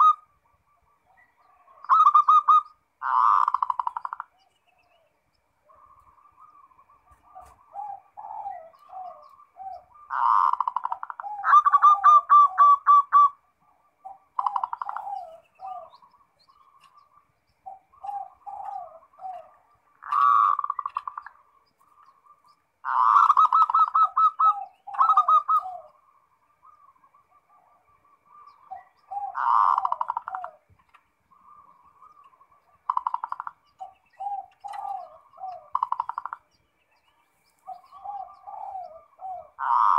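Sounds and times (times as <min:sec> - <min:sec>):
dove cooing: 0:00.0 - 0:36.7, 0:37.5 - 0:39.9.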